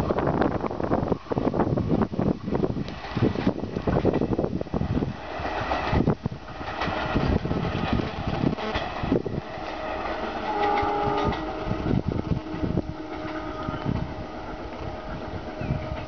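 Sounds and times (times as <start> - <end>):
diesel locomotive rumble accelerating: 0.0 - 16.0
train wheels clattering over track: 2.7 - 16.0.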